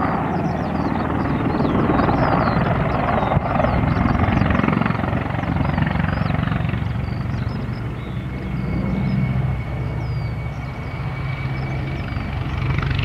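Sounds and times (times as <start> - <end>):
helicopter rotor chop: 0.0 - 13.0
turbine noise: 0.0 - 13.0.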